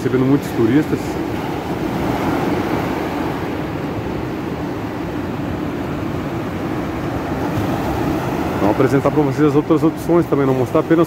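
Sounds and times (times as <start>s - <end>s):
ocean surf roaring: 0.0s - 11.0s.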